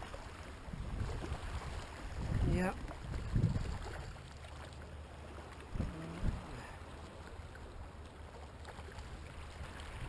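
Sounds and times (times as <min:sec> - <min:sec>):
sea water washing: 0:00.0 - 0:10.0
wind: 0:00.0 - 0:10.0.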